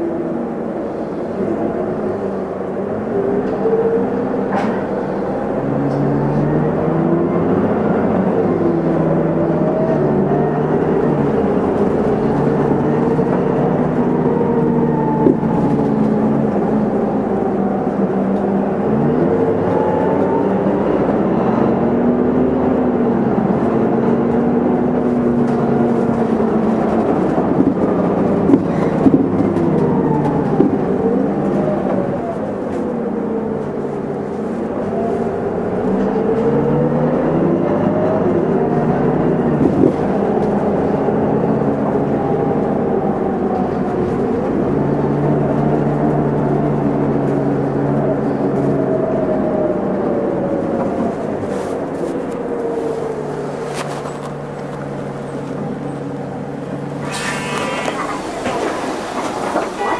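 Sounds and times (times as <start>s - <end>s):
bus engine and drivetrain whine: 0.0s - 59.9s.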